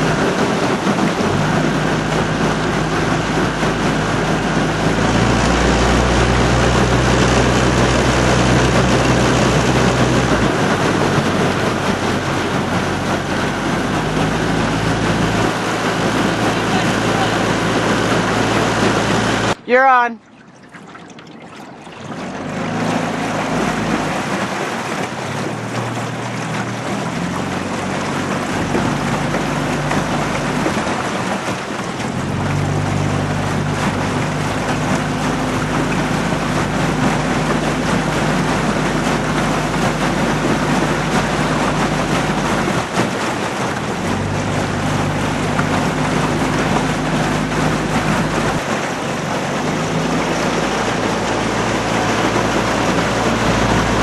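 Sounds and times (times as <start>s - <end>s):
outboard motor running: 0.0s - 54.0s
wind and water rushing: 0.0s - 54.0s.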